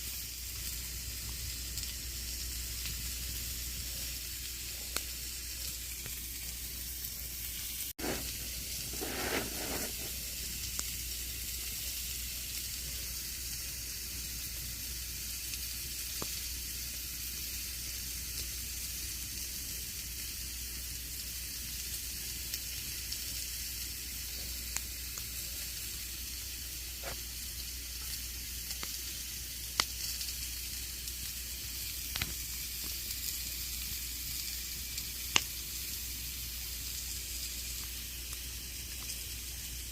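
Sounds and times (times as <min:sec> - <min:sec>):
campfire crackling and popping: 0:00.4 - 0:20.2, 0:20.8 - 0:39.9.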